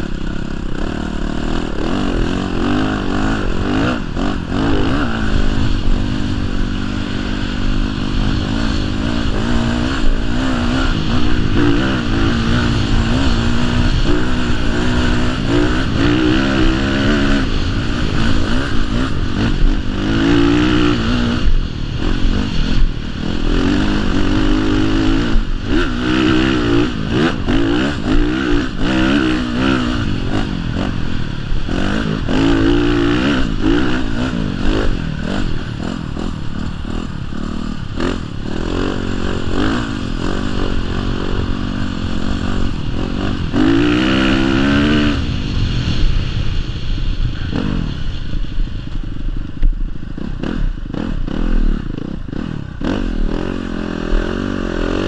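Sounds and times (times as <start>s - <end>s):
dirt bike engine revving: 0.0s - 48.5s, 49.3s - 55.0s
wind noise: 0.0s - 55.0s.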